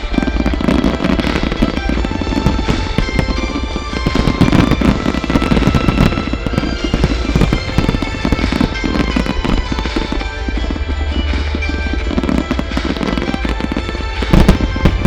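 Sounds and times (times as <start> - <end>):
fireworks bursting and crackling: 0.0 - 15.0
music with sustained tones: 0.0 - 15.0.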